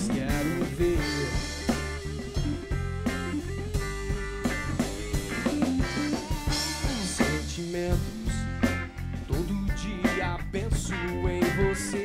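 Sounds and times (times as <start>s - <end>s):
drum kit: 0.0s - 12.0s
electric guitar melody: 0.0s - 12.0s.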